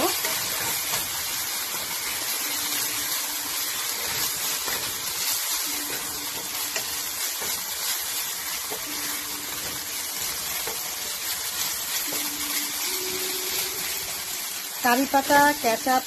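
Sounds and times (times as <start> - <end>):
sauce sizzling in hot oil: 0.0 - 16.0.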